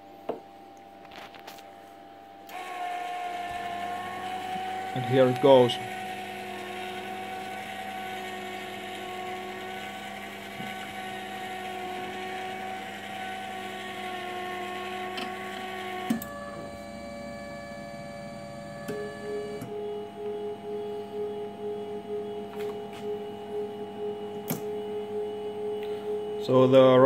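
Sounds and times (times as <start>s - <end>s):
conveyor belt humming and whining: 0.0s - 27.0s.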